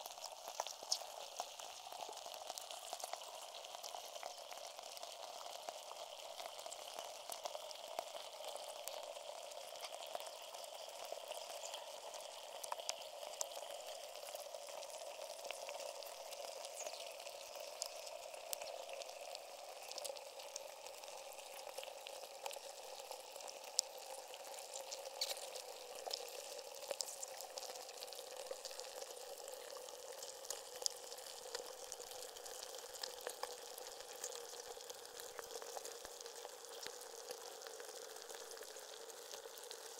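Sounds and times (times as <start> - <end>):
melting ice fizzing crackle: 0.0 - 39.9.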